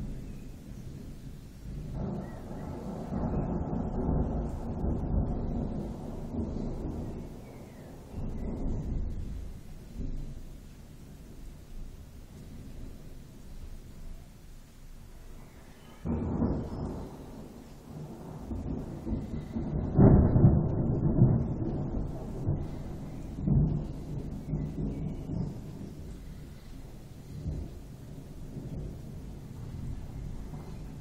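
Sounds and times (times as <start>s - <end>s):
thunder rumbling: 0.0s - 31.0s.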